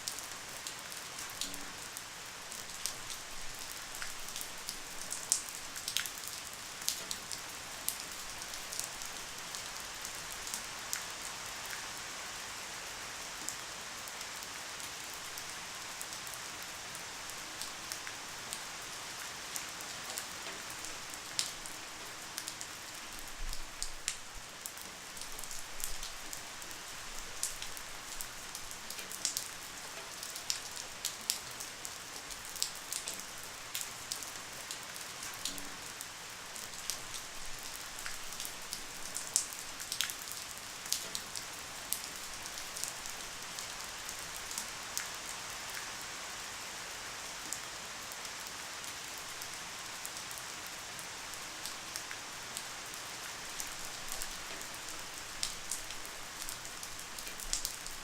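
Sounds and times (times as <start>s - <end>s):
light steady rain: 0.0s - 58.0s.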